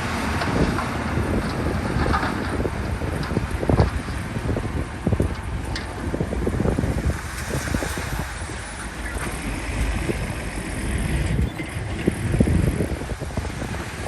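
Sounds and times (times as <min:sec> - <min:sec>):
heavy machinery engine running: 0:00.0 - 0:14.0
wind buffeting microphone: 0:00.0 - 0:14.0.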